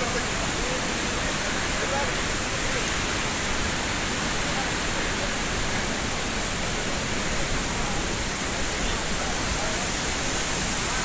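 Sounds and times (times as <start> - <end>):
falling water rushing: 0.0 - 11.0.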